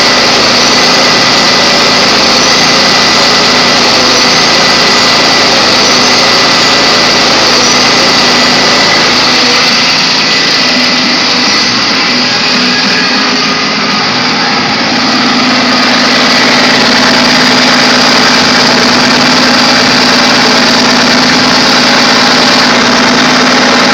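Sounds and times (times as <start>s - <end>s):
diesel engine idling: 0.0s - 23.9s
turbocharger whine: 0.0s - 23.9s.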